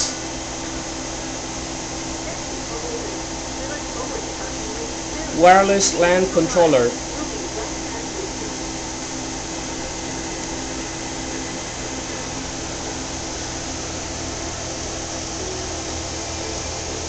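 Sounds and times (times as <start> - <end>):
cooling fans whirring: 0.0 - 17.0
faint steady tones: 0.6 - 17.0.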